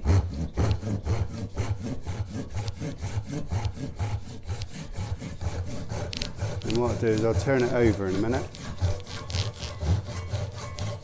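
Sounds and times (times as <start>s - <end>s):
hand saw cutting wood: 0.0s - 11.0s.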